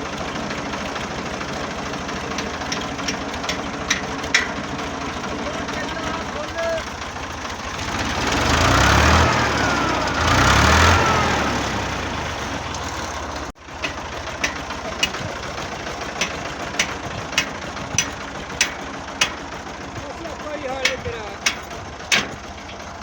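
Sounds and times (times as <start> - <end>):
tractor engine revving: 0.0 - 23.0.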